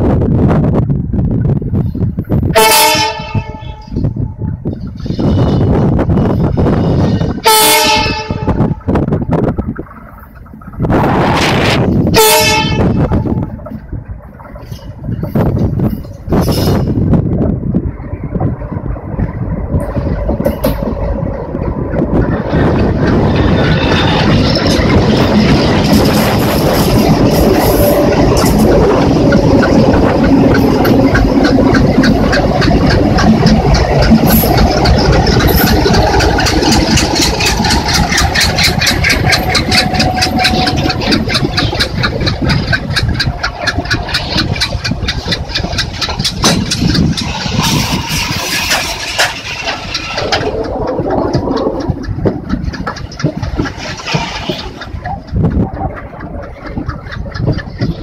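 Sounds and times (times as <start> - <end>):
diesel locomotive engines: 0.0 - 58.0
train clattering past: 1.1 - 58.0.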